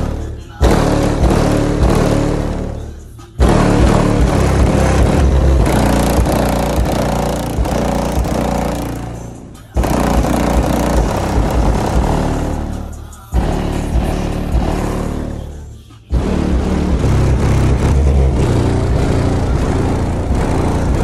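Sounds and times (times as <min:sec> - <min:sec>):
loud bass-heavy car stereo music: 0:00.0 - 0:21.0.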